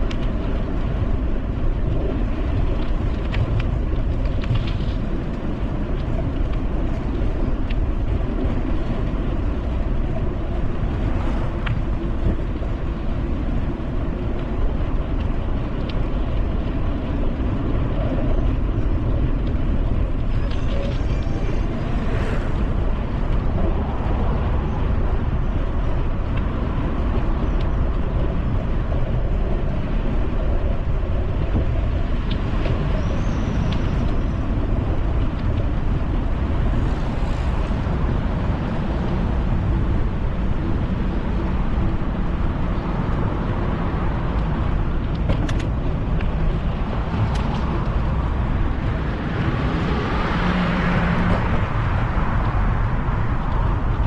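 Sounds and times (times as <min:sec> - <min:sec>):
road traffic hum: 0:00.0 - 0:54.0
wind buffeting microphone: 0:00.0 - 0:54.0.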